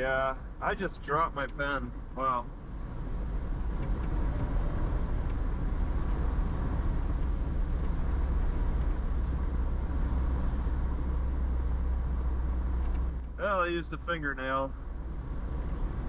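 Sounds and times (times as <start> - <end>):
road and engine rumble in cabin: 0.0 - 16.0.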